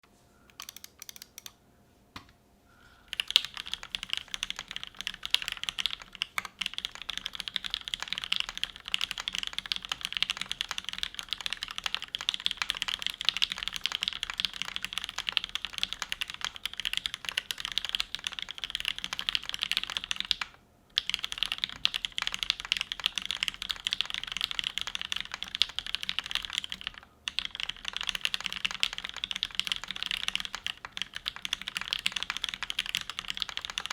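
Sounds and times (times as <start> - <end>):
typing on mechanical keyboard: 0.5 - 1.6, 3.1 - 33.9.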